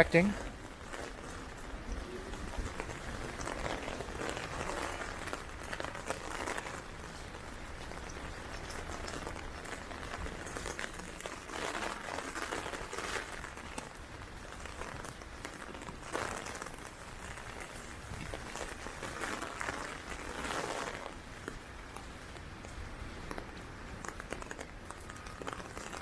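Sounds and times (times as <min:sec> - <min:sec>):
heavy rain on an umbrella: 0:00.0 - 0:26.0
wind rumbling on microphone: 0:00.0 - 0:26.0.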